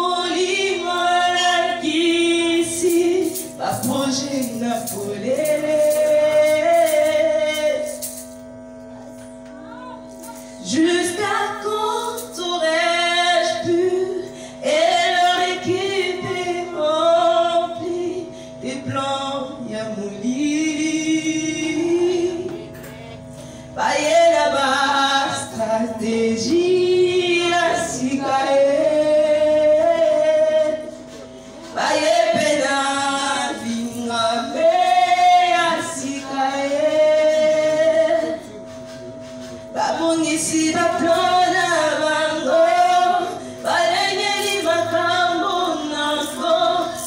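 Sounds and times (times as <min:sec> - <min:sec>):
woman singing gospel song: 0:00.0 - 0:08.4, 0:09.4 - 0:38.6, 0:39.7 - 0:47.0
electrical hum: 0:00.0 - 0:47.0.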